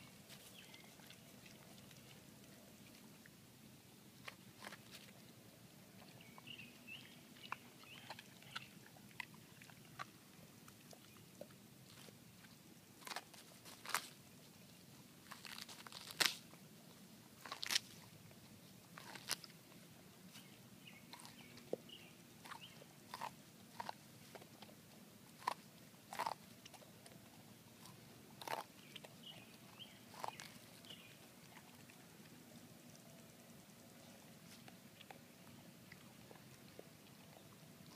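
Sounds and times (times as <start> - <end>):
dog chewing: 0.1 - 3.3, 4.2 - 14.2, 17.4 - 33.2, 34.1 - 37.9
dog crunching corn cob: 0.1 - 3.4, 4.2 - 6.5, 7.3 - 14.5, 15.2 - 37.9.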